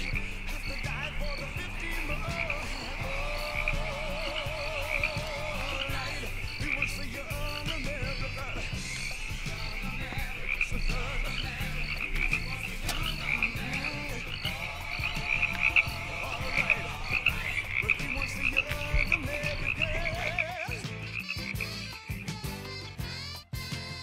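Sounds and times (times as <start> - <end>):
low hum: 0.0 - 20.4
frogs croaking: 0.0 - 22.4.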